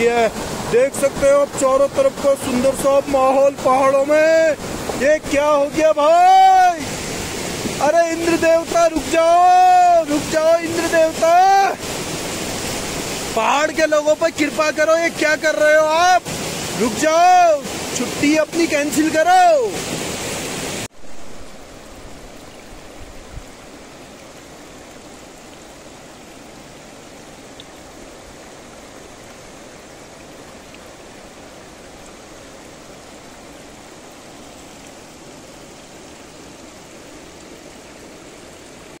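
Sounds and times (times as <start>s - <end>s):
stream rushing: 0.0s - 39.0s.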